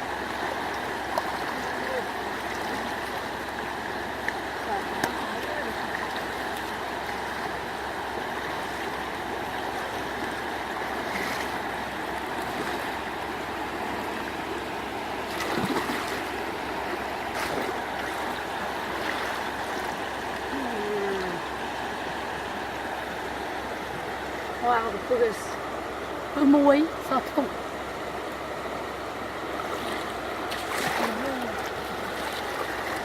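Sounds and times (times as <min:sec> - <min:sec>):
flowing water rushing: 0:00.0 - 0:33.0.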